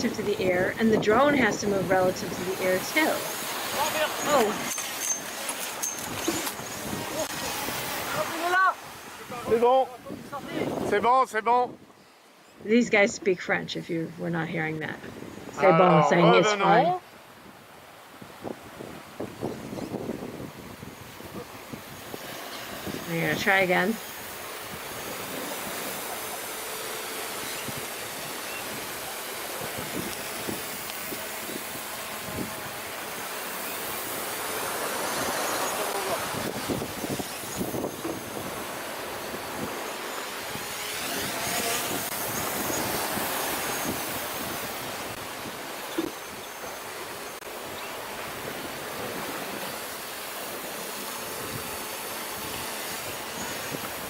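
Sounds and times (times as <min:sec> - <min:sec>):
wind buffeting microphone: 0:00.0 - 0:04.7, 0:06.0 - 0:12.0, 0:12.6 - 0:15.8, 0:16.4 - 0:46.8, 0:47.5 - 0:54.0
wind and sea rushing: 0:00.0 - 0:54.0.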